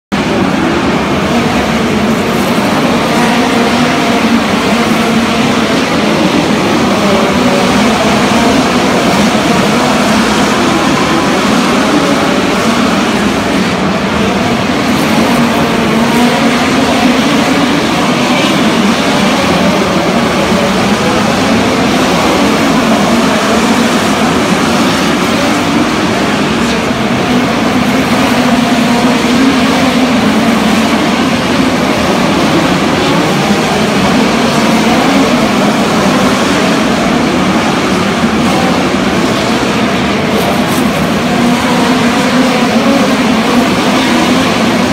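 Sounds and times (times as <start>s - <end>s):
race car engines droning: 0.0s - 44.9s.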